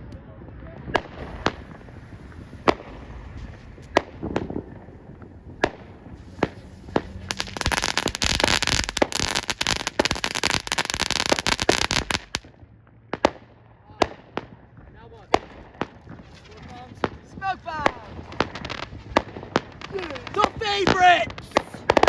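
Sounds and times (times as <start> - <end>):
fireworks bangs: 1.2 - 12.5, 14.0 - 22.0
fireworks crackling pops: 1.2 - 12.5, 15.1 - 22.0.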